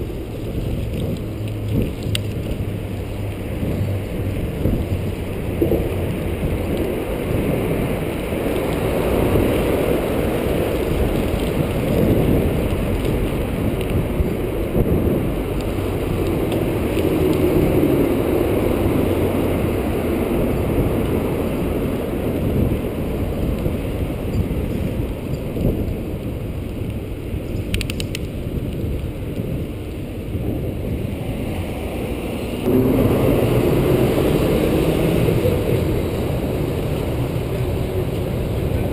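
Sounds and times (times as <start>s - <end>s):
tyres rolling on pavement: 0.0s - 38.9s
wind rushing over microphone: 0.0s - 38.9s.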